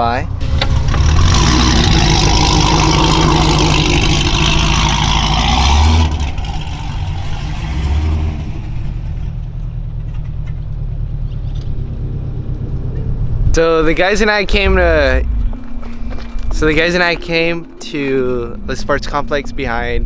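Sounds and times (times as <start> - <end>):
car engine running: 0.0 - 17.4
road and wind noise: 0.0 - 20.0.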